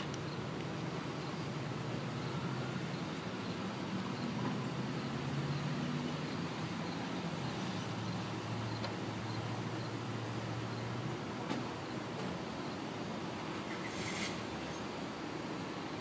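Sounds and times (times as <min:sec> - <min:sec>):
traffic noise: 0:00.0 - 0:16.0
vehicle engine humming: 0:00.0 - 0:16.0.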